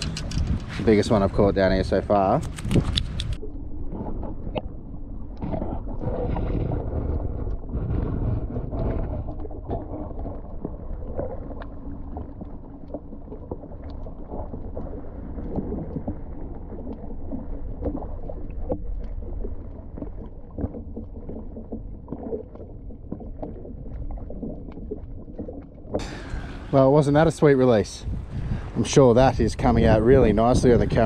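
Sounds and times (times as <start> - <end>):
underwater sloshing rumble: 0.0 - 31.0.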